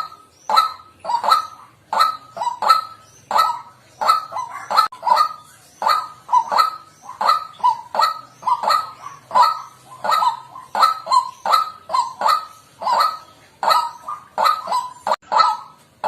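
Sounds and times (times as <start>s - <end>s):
waterhen harsh call: 0.0s - 16.0s.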